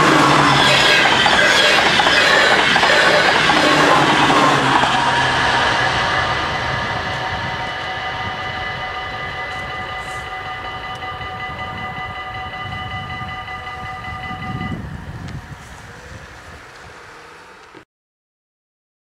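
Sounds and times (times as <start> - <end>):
level-crossing bells ringing: 0.0 - 15.2
broad rumble: 0.0 - 17.6.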